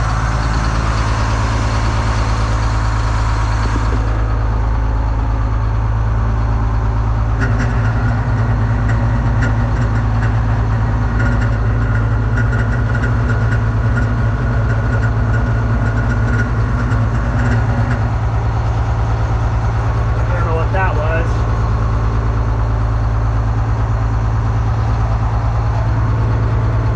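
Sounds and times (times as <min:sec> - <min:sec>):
diesel engine idling: 0:00.0 - 0:26.9
engine whine: 0:00.0 - 0:26.9.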